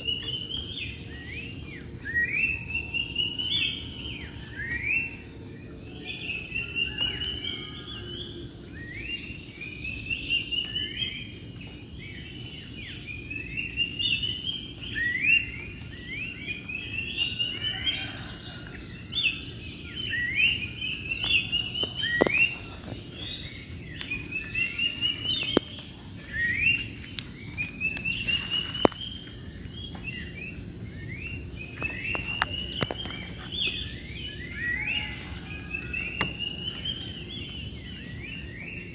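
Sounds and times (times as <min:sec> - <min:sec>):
high insect drone: 0:00.0 - 0:38.9
wild birds singing: 0:00.0 - 0:38.9.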